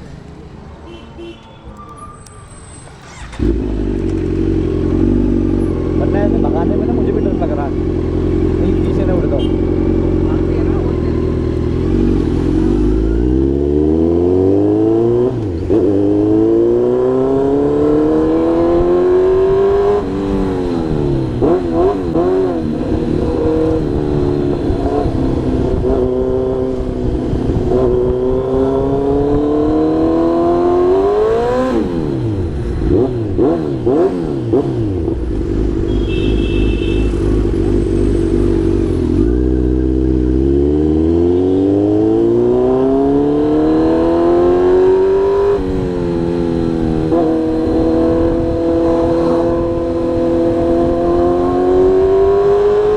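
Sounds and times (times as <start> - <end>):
motorcycle engine accelerating: 3.0 - 52.9.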